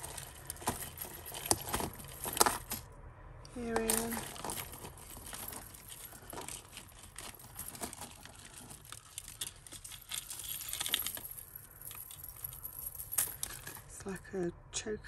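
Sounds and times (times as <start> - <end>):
jewellery clinking and rattling: 0.0 - 2.9, 3.6 - 14.0.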